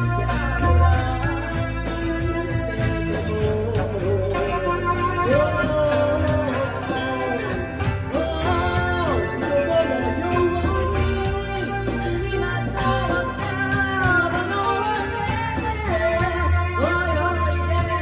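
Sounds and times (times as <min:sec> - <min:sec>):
live band playing: 0:00.0 - 0:18.0
sliding lead melody: 0:00.0 - 0:18.0.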